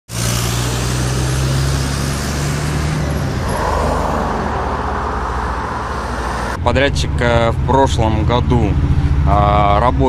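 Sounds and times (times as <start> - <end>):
cars driving past: 0.1 - 10.0
low engine hum: 0.2 - 10.0.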